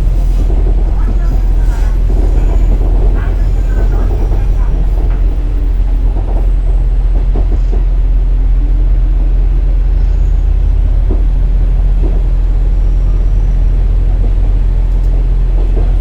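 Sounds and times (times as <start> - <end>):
diesel engine droning: 0.0 - 16.0
wheels rumbling on rails: 0.0 - 16.0.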